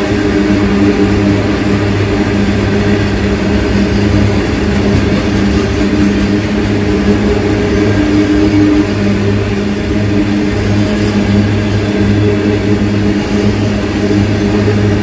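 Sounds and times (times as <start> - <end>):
low hum: 0.0 - 15.0
train wheels rumbling on track: 0.0 - 15.0.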